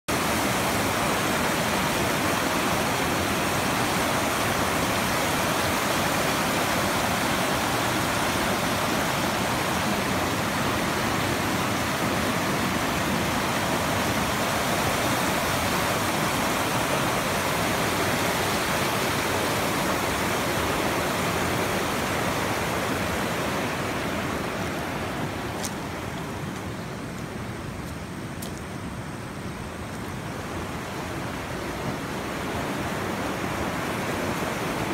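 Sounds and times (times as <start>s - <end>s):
river rapids rushing over rocks: 0.1s - 34.9s.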